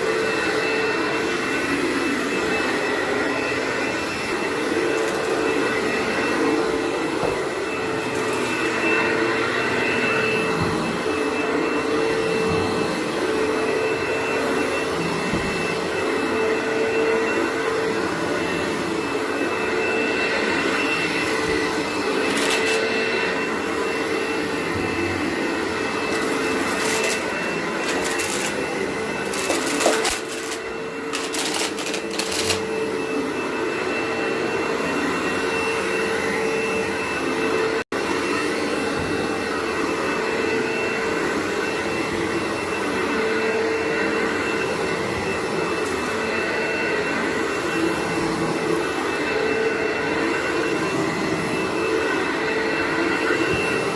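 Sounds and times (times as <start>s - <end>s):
vacuum cleaner running on carpet: 0.0s - 53.9s.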